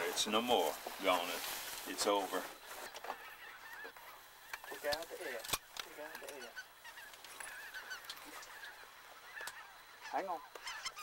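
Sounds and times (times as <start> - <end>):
geese calling: 0.0 - 11.0.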